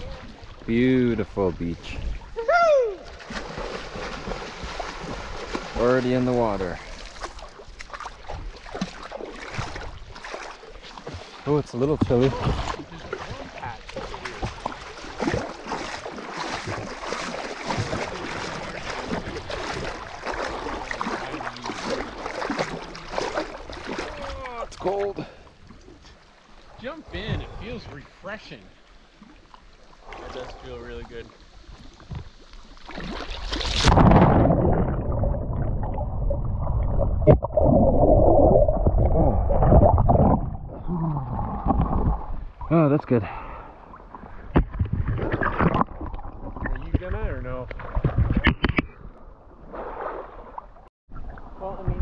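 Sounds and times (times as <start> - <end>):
water splashing from wading: 0.0 - 52.0
underwater bubbling churn: 6.4 - 27.7, 31.3 - 52.0.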